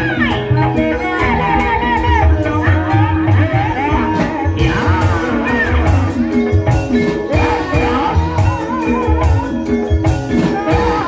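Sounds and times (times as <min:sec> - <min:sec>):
person singing: 0:00.0 - 0:11.0
sustained metallophone notes: 0:00.0 - 0:11.0.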